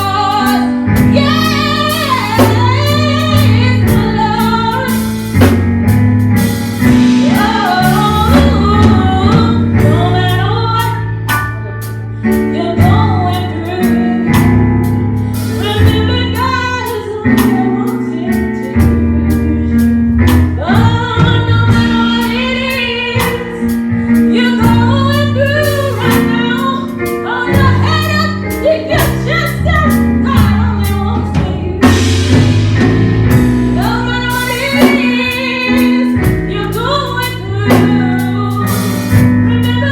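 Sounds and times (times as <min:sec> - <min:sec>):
gospel singing with live band: 0:00.0 - 0:05.7, 0:06.3 - 0:11.4, 0:15.3 - 0:39.9.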